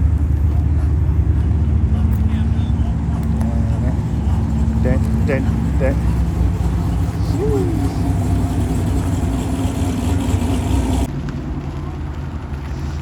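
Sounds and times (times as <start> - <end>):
car engines rumbling: 0.0 - 13.0.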